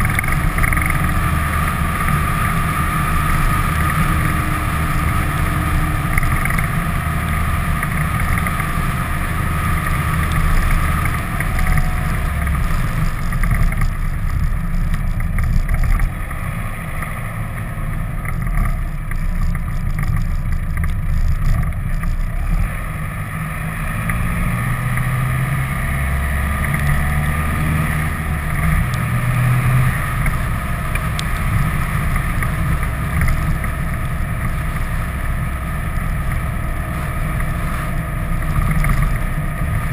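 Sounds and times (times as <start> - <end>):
vehicle engine rumble: 0.0 - 39.9.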